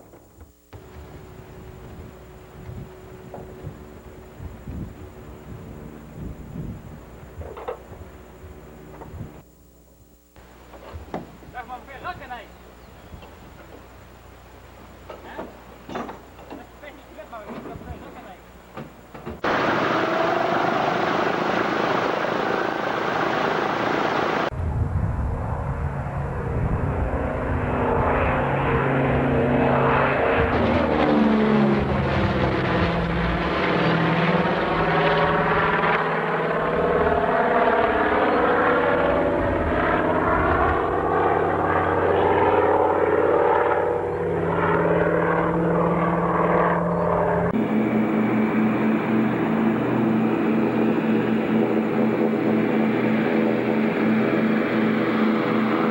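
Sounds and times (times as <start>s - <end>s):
propeller aircraft engines: 0.0s - 9.6s, 10.4s - 55.9s.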